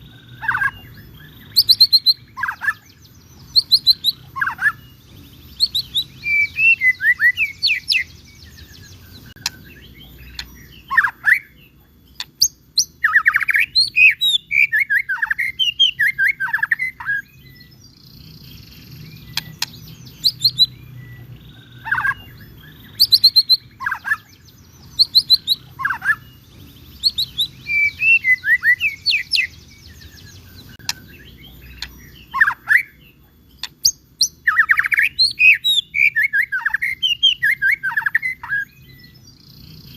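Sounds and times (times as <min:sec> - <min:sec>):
bird singing whistled phrases: 0:00.3 - 0:05.0, 0:05.6 - 0:17.8, 0:19.1 - 0:26.4, 0:27.0 - 0:39.2.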